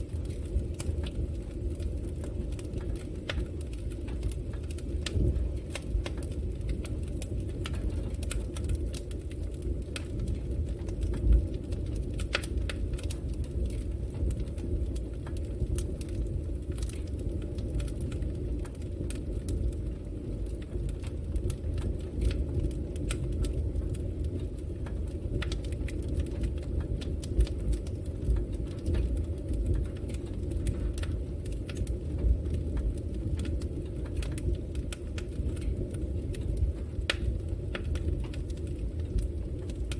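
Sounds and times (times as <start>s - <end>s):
fire crackling and popping: 0.0s - 39.9s
low rush of flames: 0.0s - 39.9s.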